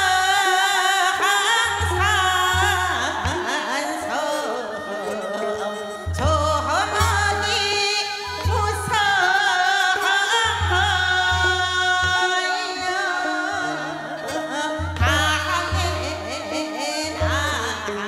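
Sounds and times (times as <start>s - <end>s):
traditional instrumental accompaniment: 0.0s - 18.0s
woman singing with vibrato: 0.0s - 18.0s.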